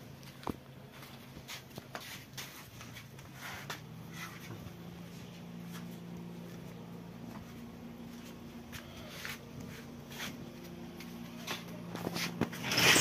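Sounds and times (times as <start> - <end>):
sheep hooves shuffling on concrete: 0.0 - 12.6
low steady hum: 0.0 - 13.0.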